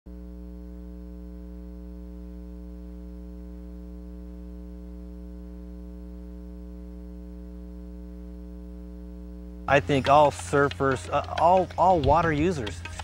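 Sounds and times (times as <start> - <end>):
low electrical hum: 0.1 - 13.0.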